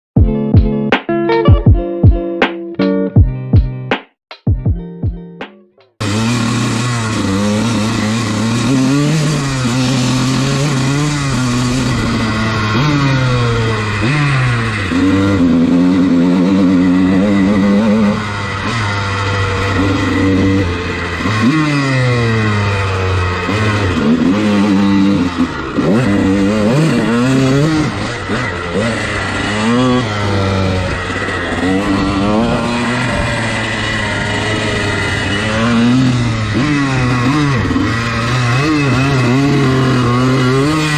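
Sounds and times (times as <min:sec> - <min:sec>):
dirt bike engine running: 0:05.9 - 0:40.9.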